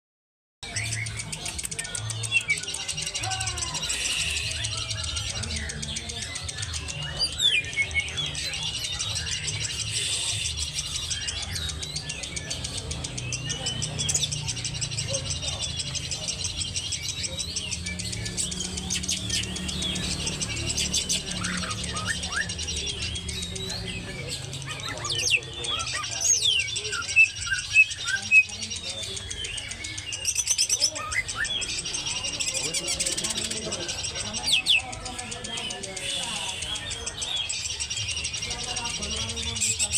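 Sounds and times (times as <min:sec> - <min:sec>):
songbird chirping and whistling: 0:00.6 - 0:39.9.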